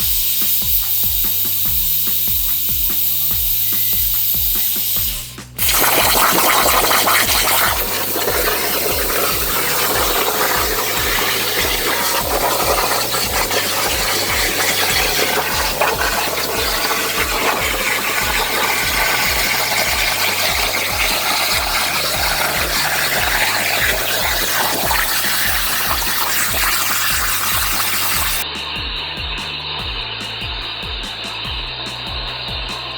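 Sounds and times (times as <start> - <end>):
plasma cutter hissing: 0.0 - 28.4
background music with steady beat: 0.0 - 32.9.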